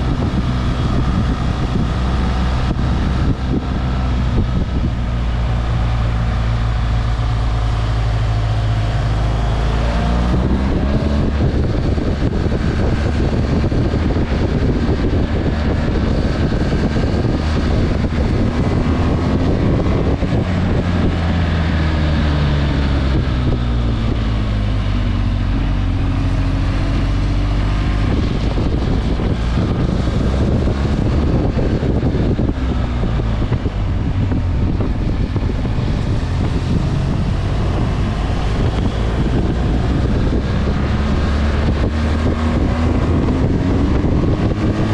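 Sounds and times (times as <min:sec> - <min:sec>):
motorcycle engine revving: 0:00.0 - 0:44.9
wind noise on microphone: 0:00.0 - 0:44.9.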